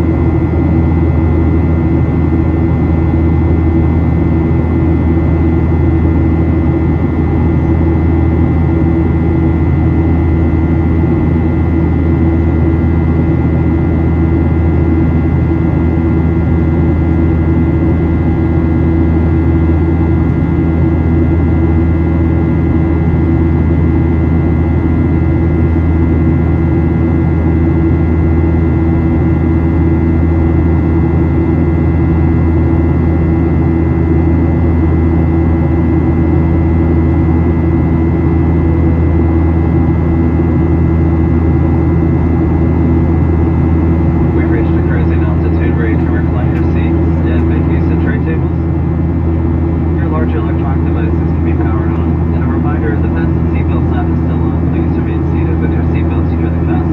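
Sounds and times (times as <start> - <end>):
faint steady whine: 0.0 - 56.9
jet engine and airflow roar: 0.0 - 56.9.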